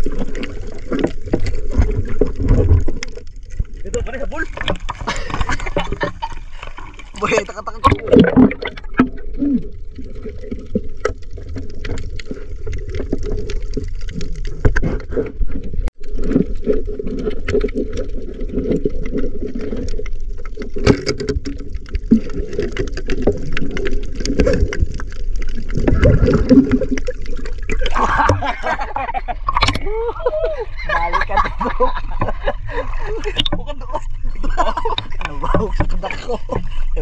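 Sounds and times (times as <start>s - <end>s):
underwater rumble and gurgling: 0.0s - 37.0s
water splashing: 0.0s - 37.0s.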